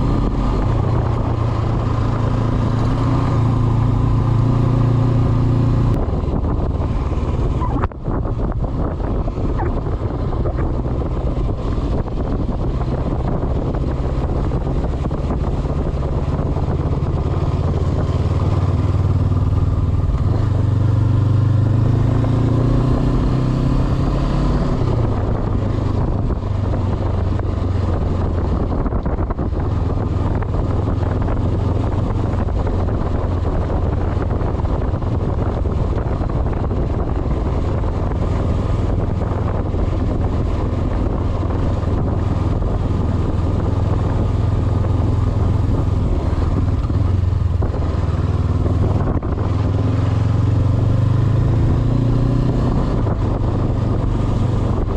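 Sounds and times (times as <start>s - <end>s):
motorcycle engine running: 0.0s - 54.9s
wind rushing: 0.0s - 54.9s.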